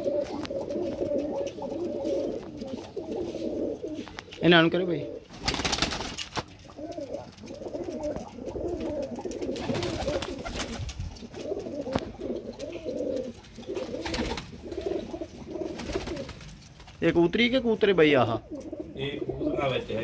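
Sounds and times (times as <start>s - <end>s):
pigeons cooing: 0.0s - 16.8s, 18.0s - 20.0s.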